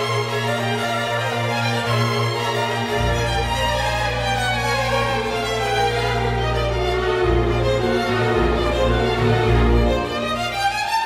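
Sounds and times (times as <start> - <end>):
bowed string music: 0.0 - 11.0.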